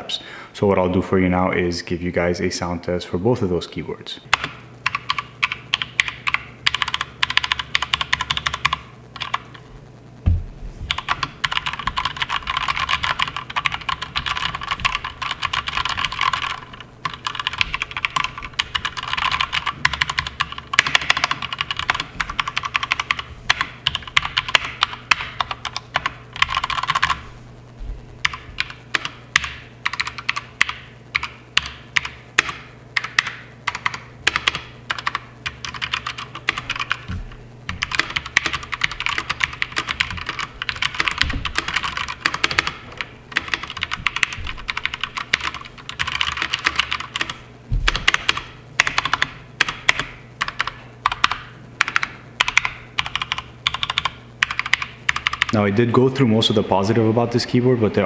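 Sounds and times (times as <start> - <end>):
mechanical keyboard typing: 4.3 - 9.6, 10.9 - 27.2, 28.2 - 55.6.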